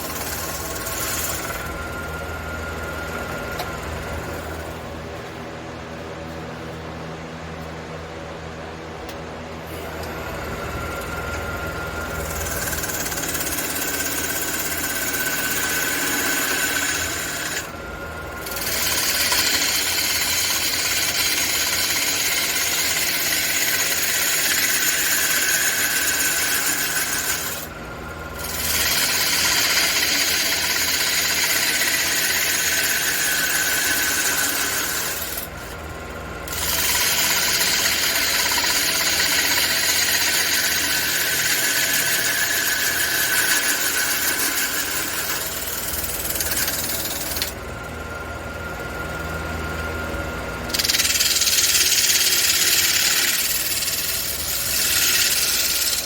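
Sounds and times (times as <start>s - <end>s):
tool squealing on spinning wood: 0.0s - 4.9s, 9.7s - 47.6s, 50.6s - 56.0s
wood lathe motor hum: 0.0s - 5.2s, 9.6s - 56.0s.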